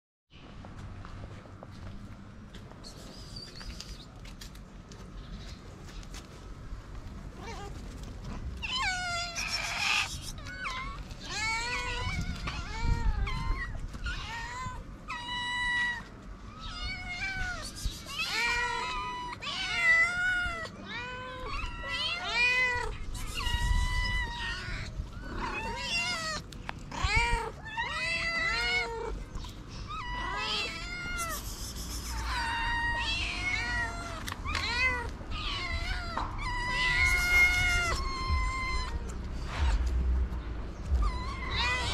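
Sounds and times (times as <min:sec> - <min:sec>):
kittens meowing: 0:07.4 - 0:40.0, 0:40.8 - 0:41.9.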